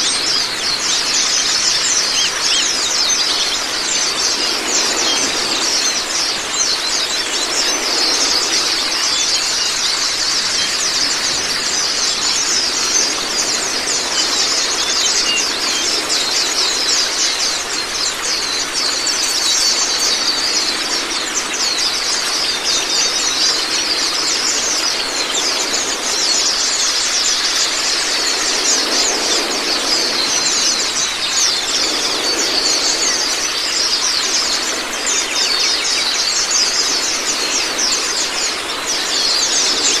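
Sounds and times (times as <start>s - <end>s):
birds chirping trills: 0.0s - 40.0s
running water: 0.0s - 40.0s.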